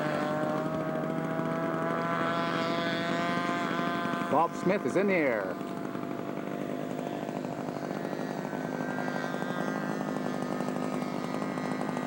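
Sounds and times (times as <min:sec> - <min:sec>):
model airplane engine buzzing: 0:00.0 - 0:12.0.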